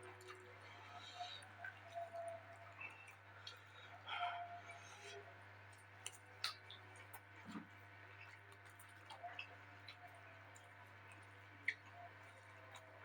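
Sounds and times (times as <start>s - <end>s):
quiet chewing: 0.0s - 13.0s
steady low hum: 0.0s - 13.0s.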